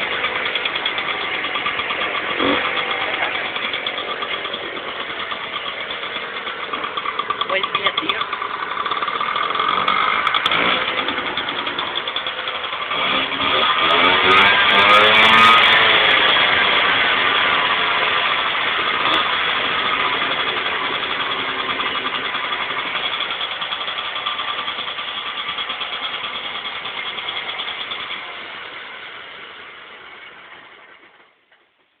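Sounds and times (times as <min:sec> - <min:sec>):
scooter engine revving and running: 0:00.0 - 0:31.4.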